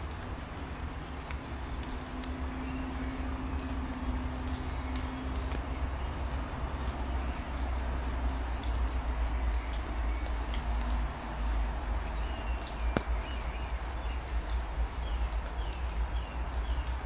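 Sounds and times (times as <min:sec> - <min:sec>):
steady rain hiss: 0:00.0 - 0:17.0
birds chirping: 0:00.1 - 0:08.7, 0:09.4 - 0:17.0.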